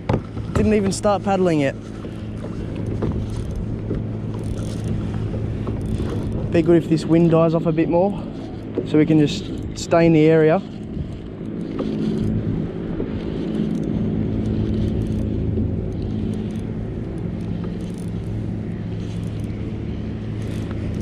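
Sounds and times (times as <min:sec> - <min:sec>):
motor engine running: 0:00.0 - 0:21.0.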